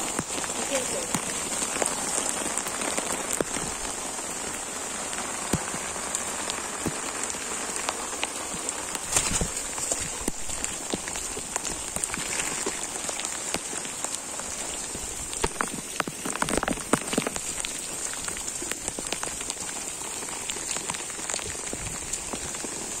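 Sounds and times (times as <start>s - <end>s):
close raindrop hits: 0.0s - 23.0s
heavy rain on grass: 0.0s - 23.0s.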